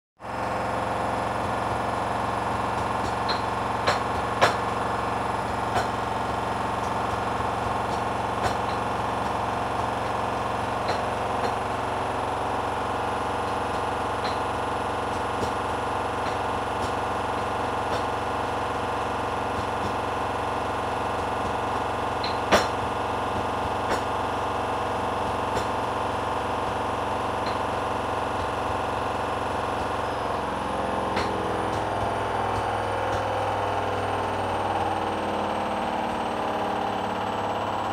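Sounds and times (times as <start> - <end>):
washing machine motor hum: 0.2 - 37.9.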